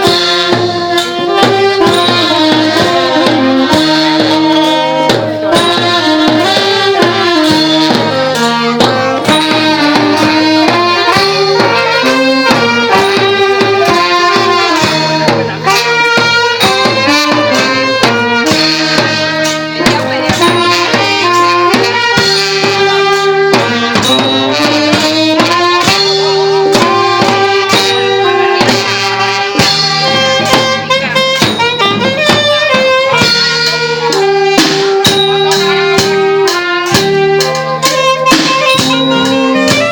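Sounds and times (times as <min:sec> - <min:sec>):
brass and saxophone melody: 0:00.0 - 0:39.9
drum beats: 0:00.0 - 0:39.9.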